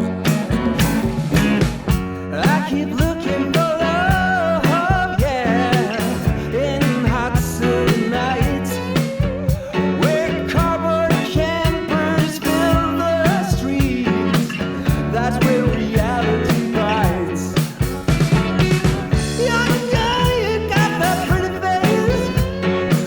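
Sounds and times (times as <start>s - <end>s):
rock song with singing: 0.0s - 23.0s.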